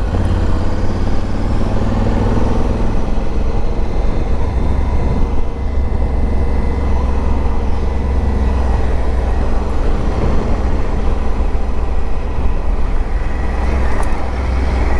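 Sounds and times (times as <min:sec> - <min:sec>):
motorcycle engine running: 0:00.0 - 0:14.9
wind rumble on microphone: 0:00.0 - 0:14.9.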